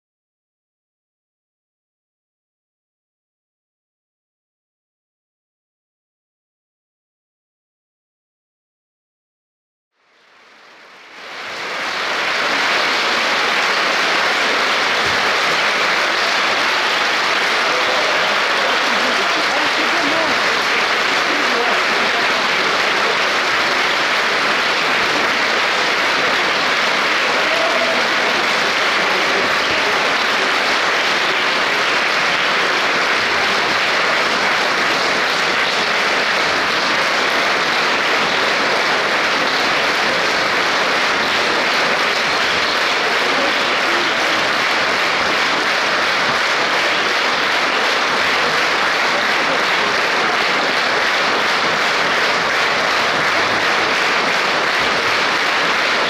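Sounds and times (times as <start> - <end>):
audience applauding: 10.1 - 56.0.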